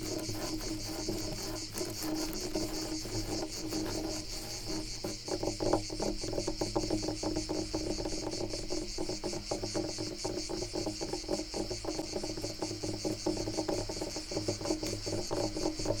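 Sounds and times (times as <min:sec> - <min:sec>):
crickets chirping: 0:00.0 - 0:16.0
rapid scratching on wood: 0:00.0 - 0:16.0.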